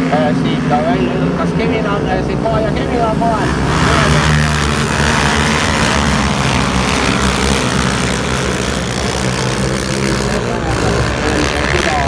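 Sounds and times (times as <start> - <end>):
quad engines droning: 0.0 - 12.0.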